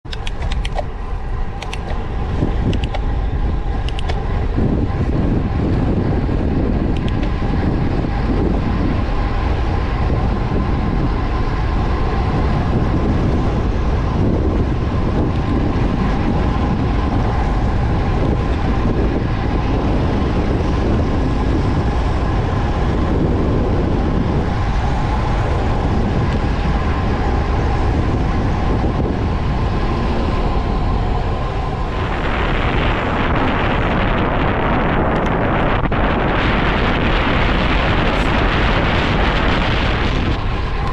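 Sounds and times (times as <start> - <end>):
road noise: 0.0 - 40.9
wind rushing over microphone: 0.0 - 40.9.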